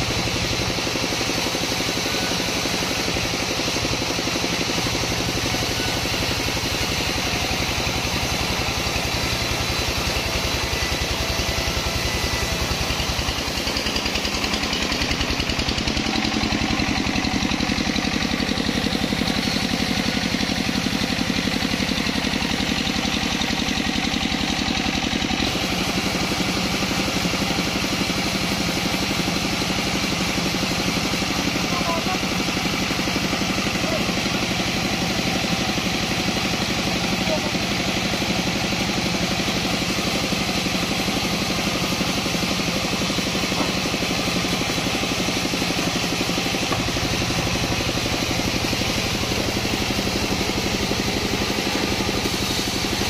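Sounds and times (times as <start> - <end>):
saw machine engine running: 0.0 - 53.0.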